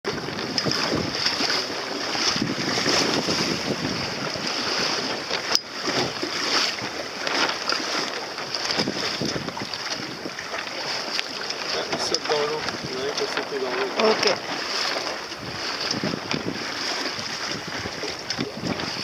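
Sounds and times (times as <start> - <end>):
water slapping against hull: 0.1 - 19.0
wind buffeting microphone: 0.1 - 19.0.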